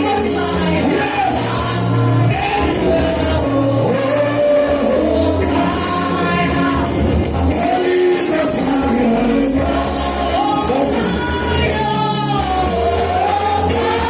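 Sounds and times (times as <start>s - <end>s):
gospel singing voices: 0.0s - 14.0s
steady bass accompaniment: 0.0s - 14.0s.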